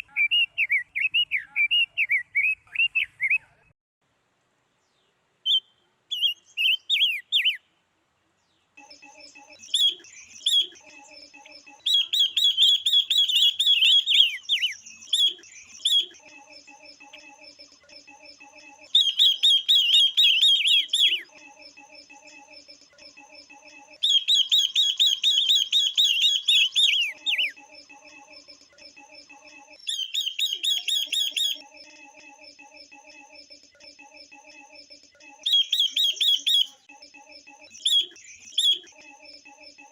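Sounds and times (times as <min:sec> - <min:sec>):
rapid high bird chirps: 0:00.0 - 0:03.6, 0:04.9 - 0:07.7, 0:08.8 - 0:39.9
lower pulsing bird chatter: 0:04.7 - 0:39.9.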